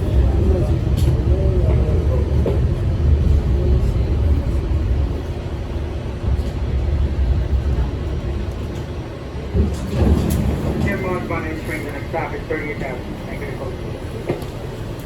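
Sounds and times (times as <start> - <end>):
subway train rumbling on track: 0.0 - 15.0.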